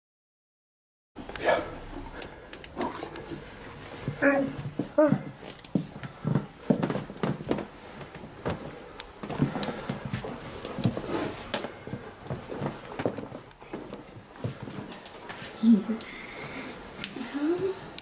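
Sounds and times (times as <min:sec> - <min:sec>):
fabric rustling: 0:02.8 - 0:18.0.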